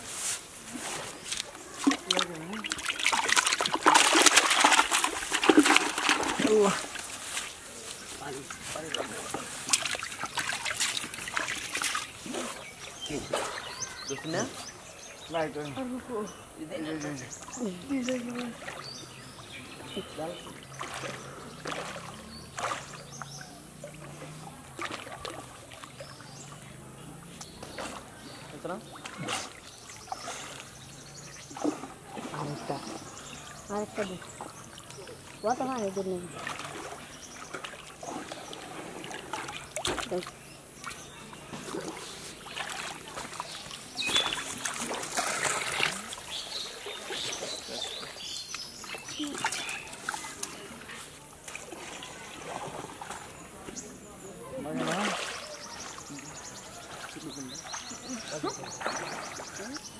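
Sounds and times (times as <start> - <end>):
water splashing and sloshing: 0.0 - 59.9.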